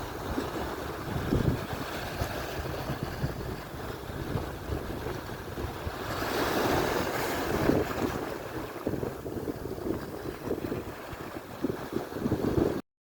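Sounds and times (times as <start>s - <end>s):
wave breaking: 0.0s - 12.7s
surf washing on shore: 0.0s - 12.8s
wind buffeting microphone: 0.0s - 12.8s.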